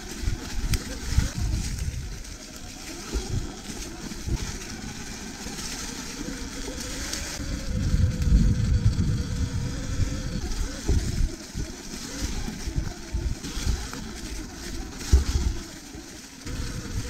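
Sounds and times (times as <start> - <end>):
wind buffeting microphone: 0.0 - 5.4, 6.2 - 15.7, 16.4 - 17.0
low rumble of tyres and frame: 0.0 - 17.0.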